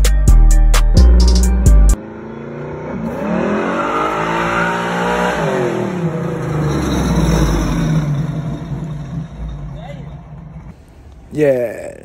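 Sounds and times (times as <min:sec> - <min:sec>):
car engine accelerating: 0:01.0 - 0:10.7.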